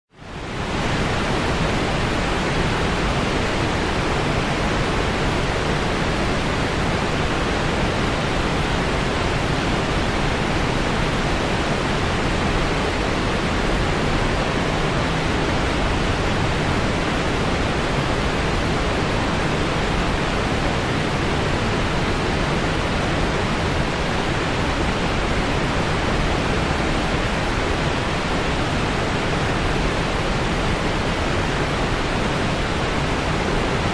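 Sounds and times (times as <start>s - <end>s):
steady white noise hiss: 0.2s - 33.9s.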